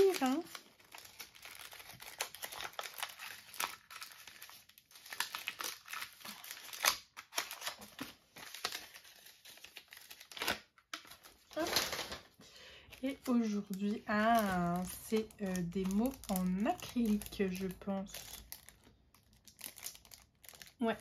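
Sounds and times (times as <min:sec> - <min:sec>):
wrapping paper crinkling and tearing: 0:00.0 - 0:21.0.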